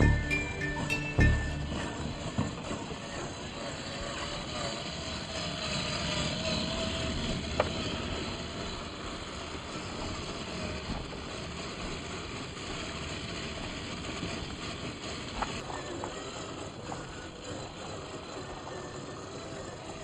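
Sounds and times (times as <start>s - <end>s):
electric motor and gear whine: 0.0s - 20.0s.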